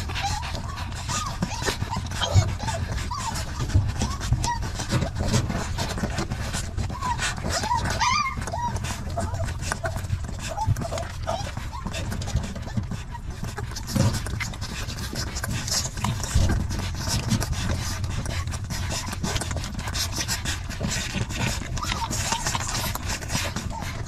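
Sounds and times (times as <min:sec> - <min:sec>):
puppies suckling: 0:00.0 - 0:24.0.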